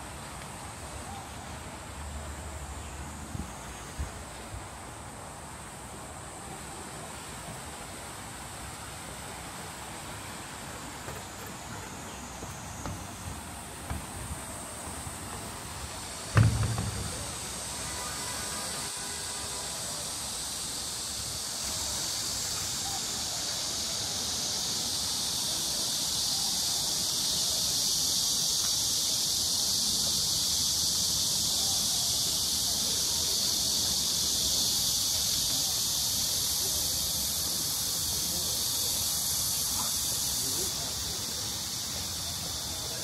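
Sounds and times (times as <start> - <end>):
high-pitched insect chorus: 0.0 - 43.0.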